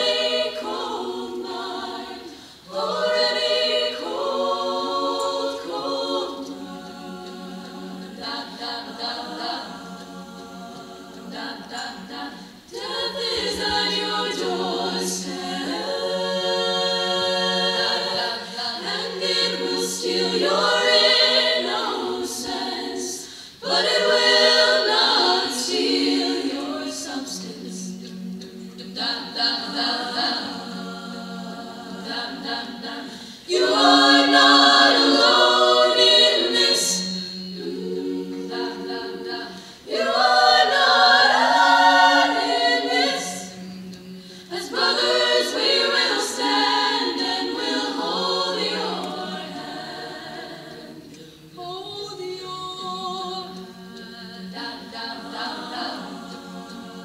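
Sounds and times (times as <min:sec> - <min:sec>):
women's choir singing in harmony: 0:00.0 - 0:57.0.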